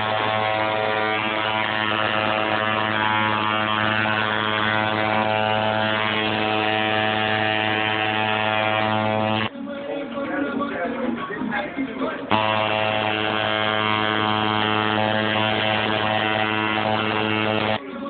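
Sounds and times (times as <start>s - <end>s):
tattoo machine buzzing: 0.0s - 9.5s, 12.3s - 17.8s.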